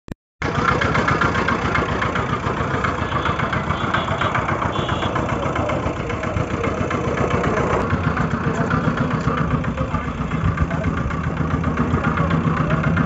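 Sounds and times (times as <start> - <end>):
engine idling: 0.4 - 13.0.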